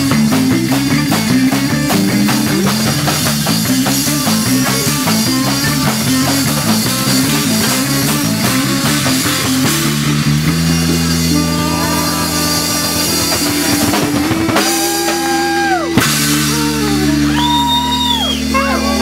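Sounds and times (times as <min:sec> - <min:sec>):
hand percussion: 0:00.0 - 0:17.0
drum kit: 0:00.0 - 0:19.0
electric bass: 0:00.0 - 0:19.0
saxophone: 0:00.0 - 0:19.0.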